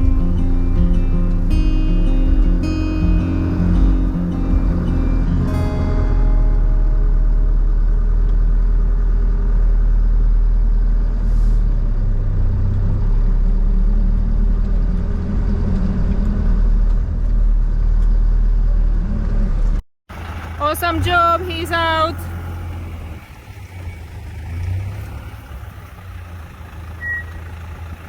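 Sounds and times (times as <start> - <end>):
truck diesel engine under load: 0.0 - 28.0.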